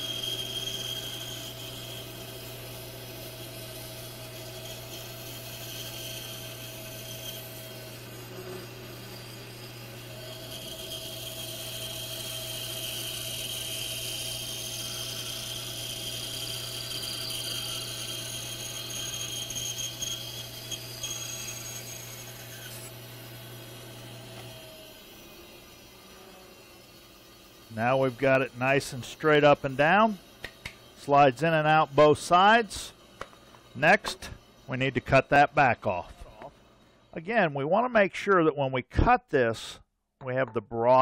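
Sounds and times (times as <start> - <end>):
bandsaw blade cutting wood: 0.0 - 36.4
bandsaw motor hum: 0.0 - 36.9.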